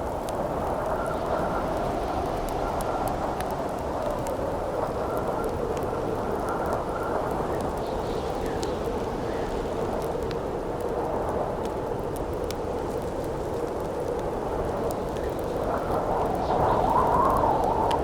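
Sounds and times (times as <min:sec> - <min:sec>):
campfire crackling and popping: 0:00.0 - 0:18.0
howling wind: 0:00.0 - 0:18.0.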